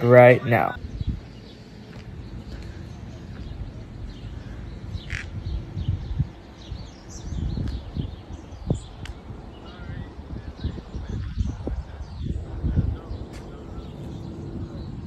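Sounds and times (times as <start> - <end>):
birds calling: 0.0 - 15.0
low uneven rumble: 0.0 - 15.0.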